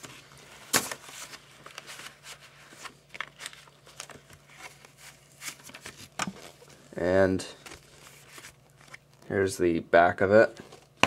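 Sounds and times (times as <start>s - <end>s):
paper sleeves rustling: 0.0s - 9.1s.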